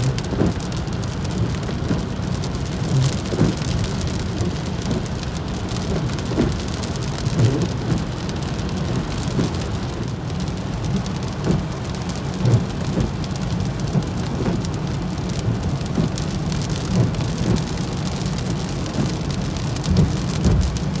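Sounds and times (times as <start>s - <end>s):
heavy rain on car roof: 0.0s - 21.0s
low road rumble: 0.0s - 21.0s.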